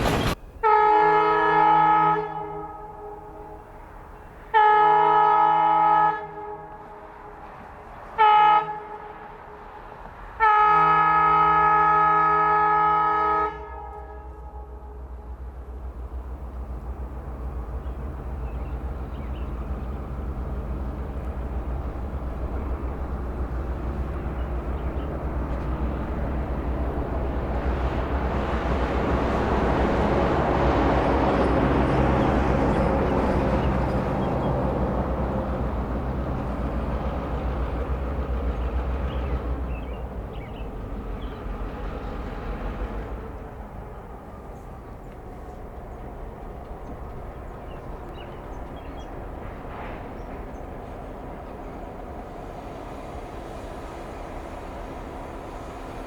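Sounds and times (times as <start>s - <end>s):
diesel locomotive engine drone: 0.0s - 56.0s
train wheel and rail noise: 0.0s - 56.0s.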